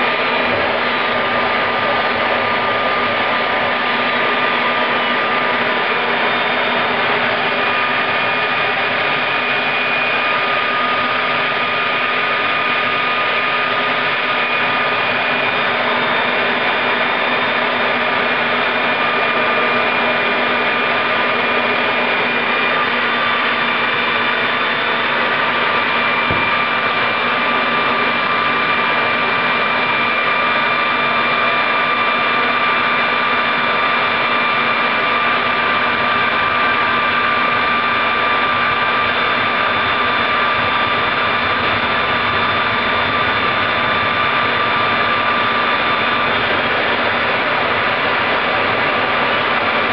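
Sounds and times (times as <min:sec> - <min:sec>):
gas turbine whine and rush: 0:00.0 - 0:49.9.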